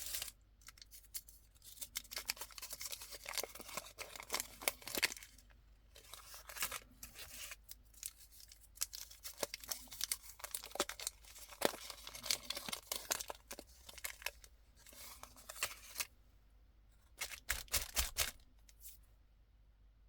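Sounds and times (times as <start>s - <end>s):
plastic wrappers crinkling: 0.0s - 16.1s, 17.2s - 19.0s.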